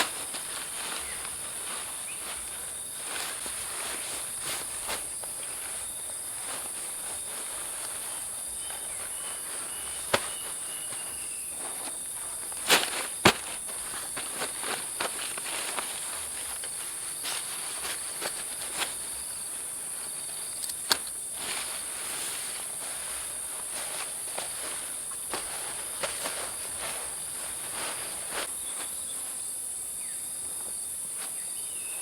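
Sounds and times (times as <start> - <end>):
forest insects chorus: 0.0 - 32.0.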